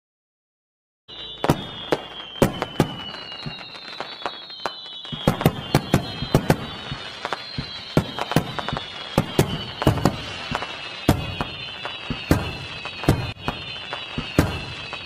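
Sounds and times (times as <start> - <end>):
fireworks bangs: 1.1 - 15.0
fireworks whistles falling in pitch: 1.1 - 15.0.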